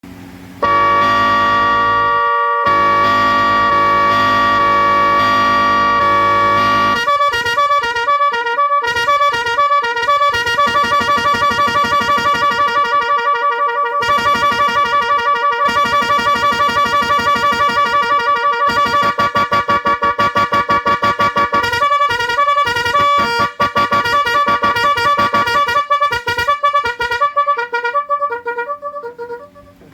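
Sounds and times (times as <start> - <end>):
electronic multi-tone horn: 0.6 - 29.9.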